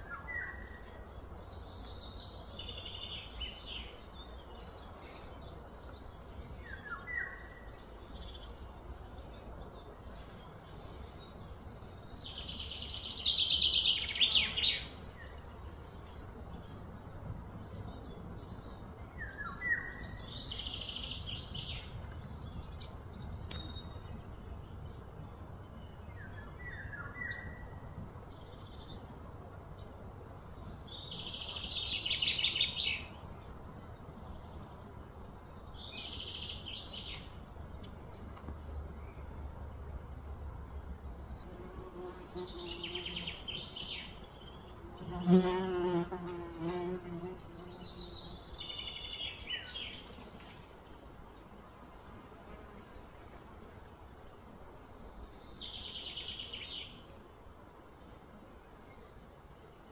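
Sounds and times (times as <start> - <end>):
birds chirping: 0.0 - 59.3.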